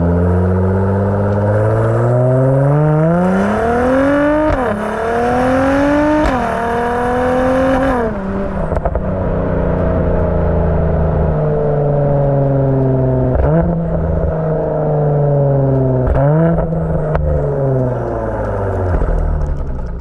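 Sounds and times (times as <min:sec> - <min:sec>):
car engine revving through exhaust: 0:00.0 - 0:20.0
exhaust crackles: 0:00.0 - 0:20.0.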